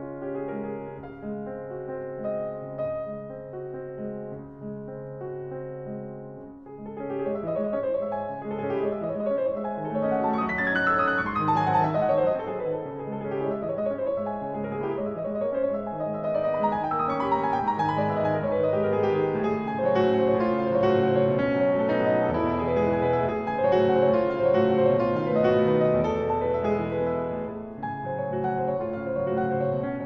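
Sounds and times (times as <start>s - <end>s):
solo piano: 0.0s - 30.0s.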